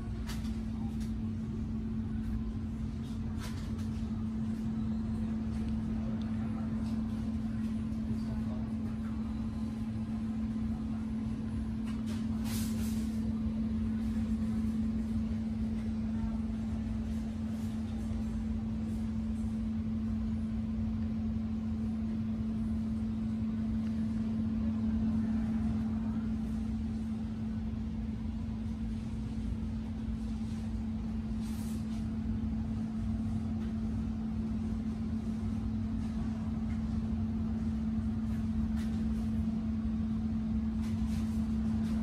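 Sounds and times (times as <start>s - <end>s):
low machine drone: 0.0s - 42.0s.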